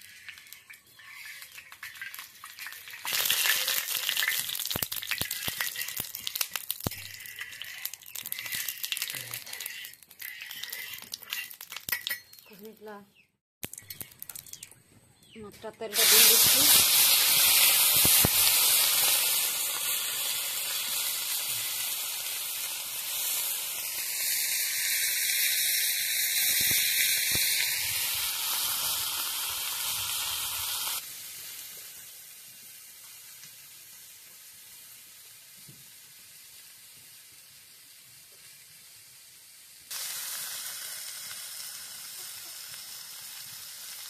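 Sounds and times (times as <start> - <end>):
fish sizzling in hot oil: 0.0 - 12.2, 15.9 - 44.0.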